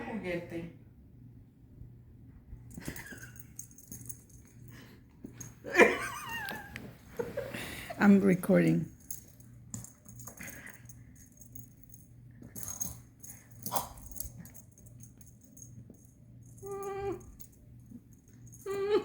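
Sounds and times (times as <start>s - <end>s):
light rattling and jingling: 2.7s - 19.0s.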